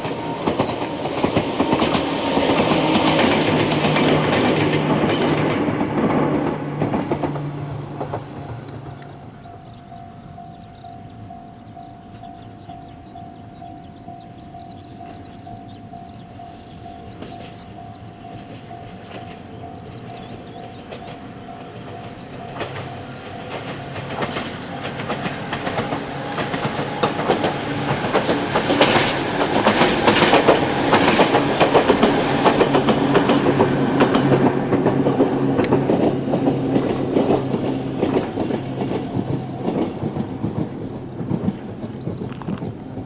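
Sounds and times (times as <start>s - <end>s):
train wheels clicking over rail joints: 0.0s - 43.0s.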